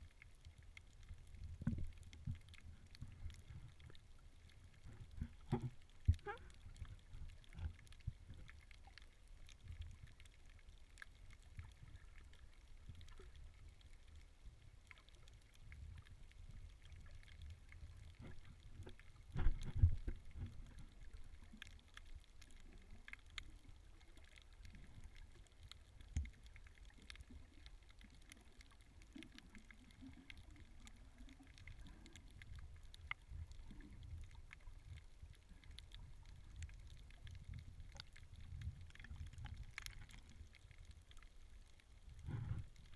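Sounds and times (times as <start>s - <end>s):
faint underwater clicks: 0.0s - 42.9s
underwater rumble of moving water: 0.0s - 42.9s.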